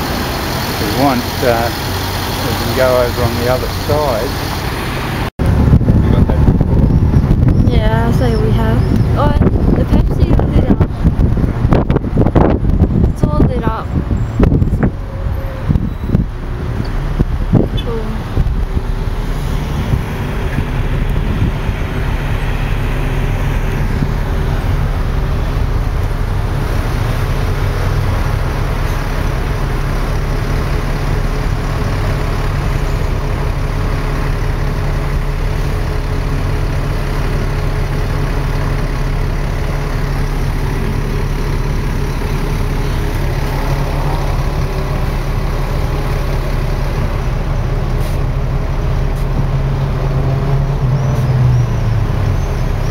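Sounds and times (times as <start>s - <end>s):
bus engine humming: 0.0s - 52.9s
city traffic: 0.0s - 52.9s.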